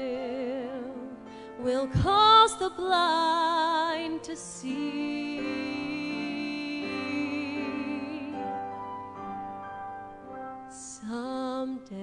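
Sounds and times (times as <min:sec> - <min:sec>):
woman singing with vibrato: 0:00.0 - 0:08.7, 0:10.7 - 0:12.0.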